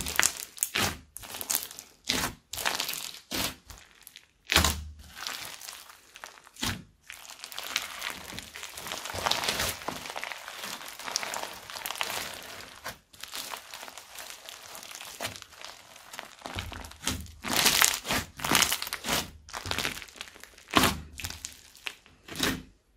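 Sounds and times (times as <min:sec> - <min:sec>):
crunchy slime squeezed by hand: 0:00.0 - 0:22.7
slime squishing: 0:00.0 - 0:22.8.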